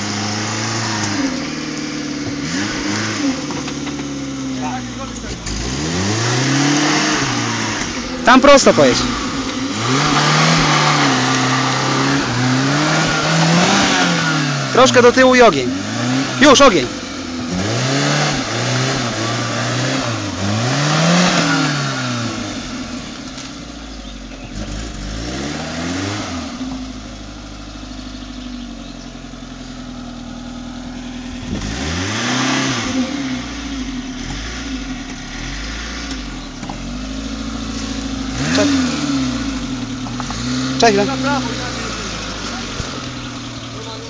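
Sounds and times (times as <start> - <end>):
car engine revving under load: 0.0 - 44.0.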